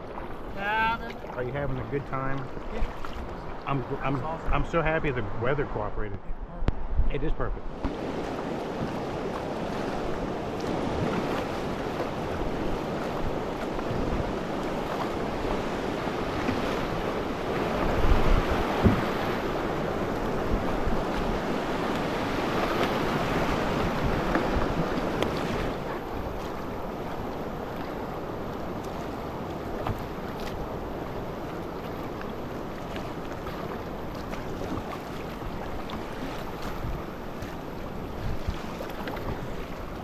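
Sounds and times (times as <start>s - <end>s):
river water rushing and splashing: 0.0s - 6.0s, 7.6s - 40.0s
wind buffeting microphone: 2.5s - 31.8s, 36.2s - 39.7s.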